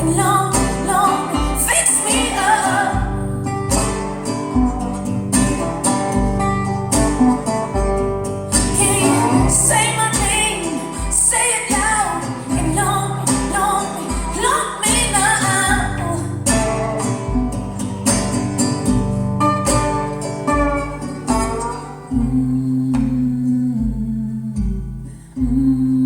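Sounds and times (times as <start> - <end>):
pop-soul song over speakers: 0.0 - 26.0.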